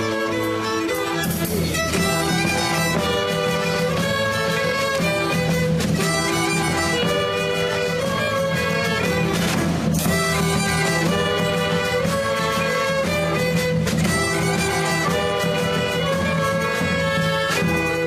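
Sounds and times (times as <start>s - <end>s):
string orchestra playing slow melody: 0.0s - 18.0s.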